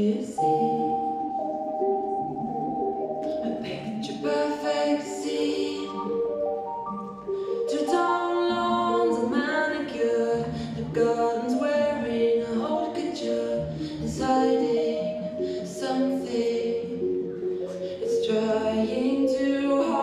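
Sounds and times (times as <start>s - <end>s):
song with singing voice: 0.0s - 20.0s.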